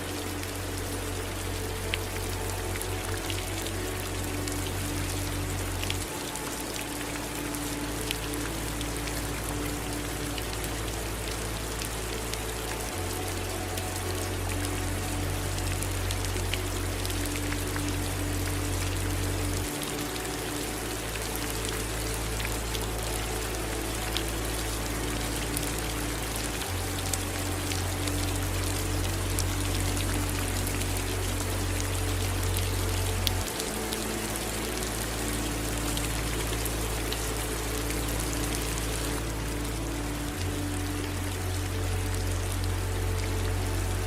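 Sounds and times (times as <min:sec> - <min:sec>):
ambient music drone: 0:00.0 - 0:44.0
steady rain falling: 0:00.0 - 0:44.0.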